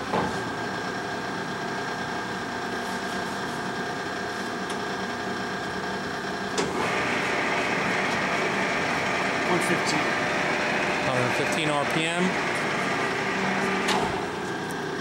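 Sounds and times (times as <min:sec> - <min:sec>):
lathe running hum: 0:00.0 - 0:15.0.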